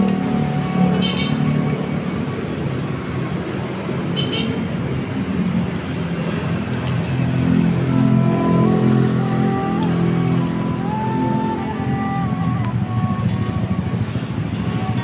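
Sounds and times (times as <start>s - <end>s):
passing cars and motorbikes: 0.0s - 15.0s.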